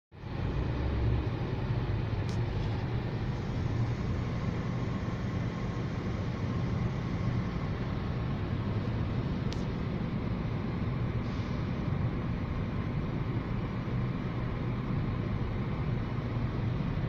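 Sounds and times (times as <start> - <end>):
traffic noise: 0.1 - 17.0.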